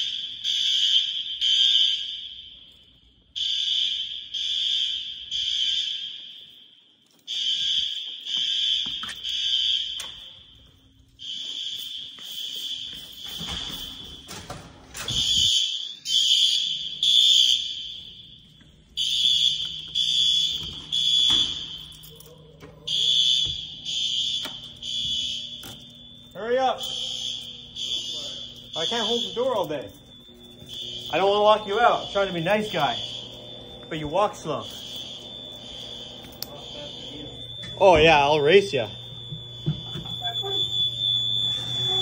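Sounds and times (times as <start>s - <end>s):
fire alarm horn blasts: 0.0s - 42.0s.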